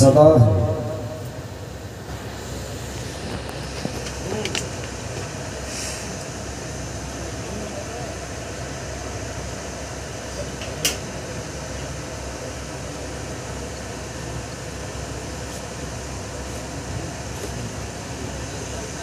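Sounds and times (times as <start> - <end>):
air cooler fan drone: 0.0 - 19.0.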